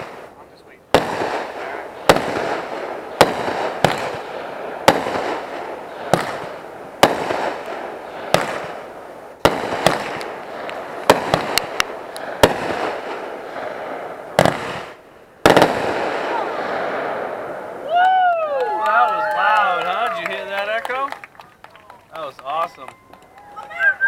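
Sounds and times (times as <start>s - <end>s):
fireworks bangs: 0.0s - 21.1s
fireworks crackle: 0.0s - 24.0s.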